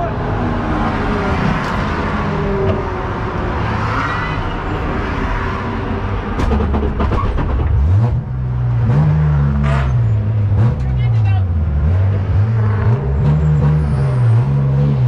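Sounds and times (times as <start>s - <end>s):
car rolling rumble: 0.0s - 15.0s.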